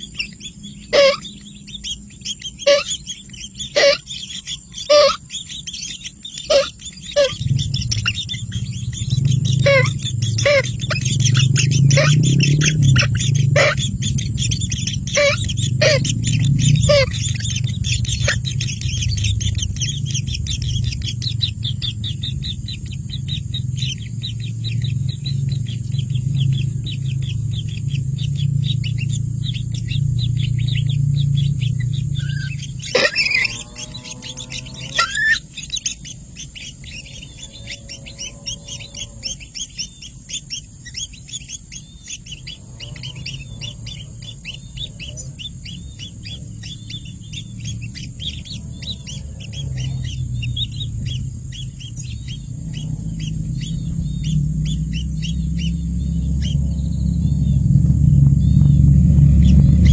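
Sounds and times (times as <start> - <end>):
drawn-out bird calls: 0.0 - 59.9
low steady hum: 0.0 - 59.9
small birds chirping: 0.0 - 59.9.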